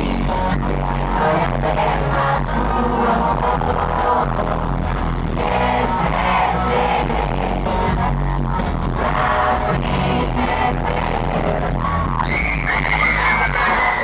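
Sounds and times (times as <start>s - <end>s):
person singing: 0.0s - 8.0s, 8.9s - 14.0s
electric guitar: 0.0s - 14.0s
live pop band playing: 0.0s - 14.0s.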